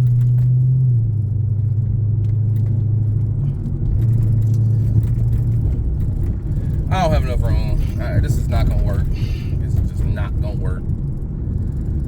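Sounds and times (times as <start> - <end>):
car engine and road noise drone: 0.0 - 12.0.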